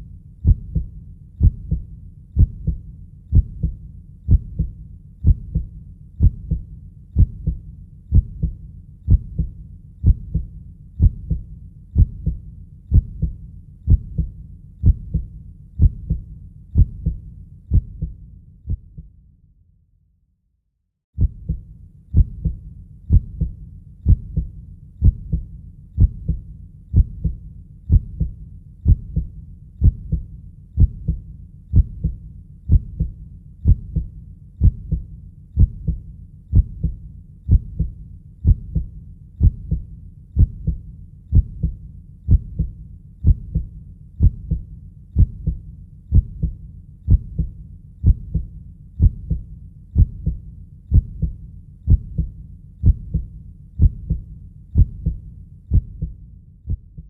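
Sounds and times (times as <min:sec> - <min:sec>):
heartbeat: 0:00.0 - 0:19.1, 0:21.2 - 0:57.0.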